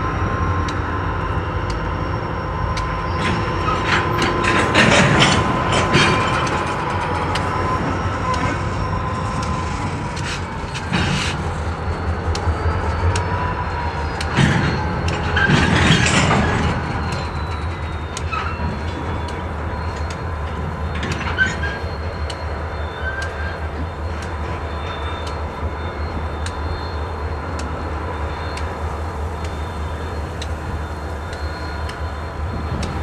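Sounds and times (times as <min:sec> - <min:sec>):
faint steady squeal: 0:00.0 - 0:33.0
freight train rumbling: 0:00.0 - 0:33.0
wheels clanking on rails: 0:00.0 - 0:33.0.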